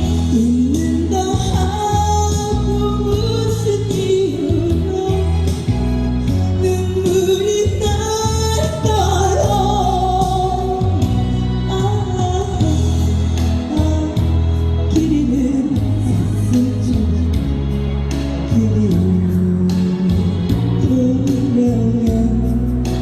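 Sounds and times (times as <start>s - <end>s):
backing music with bass: 0.0s - 23.0s
person singing: 0.0s - 23.0s.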